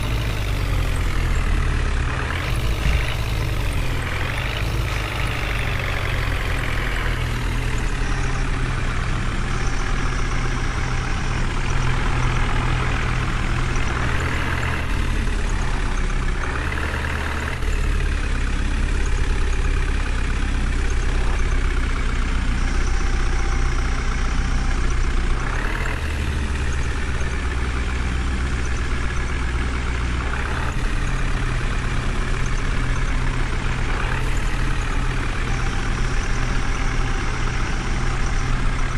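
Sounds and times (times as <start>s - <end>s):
heavy diesel engine revving: 0.0s - 38.9s.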